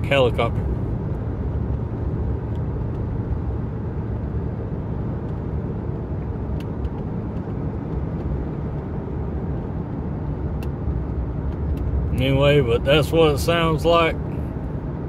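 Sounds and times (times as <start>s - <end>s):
muffled exhaust: 0.0s - 15.0s
tyre road rumble in cabin: 0.0s - 15.0s.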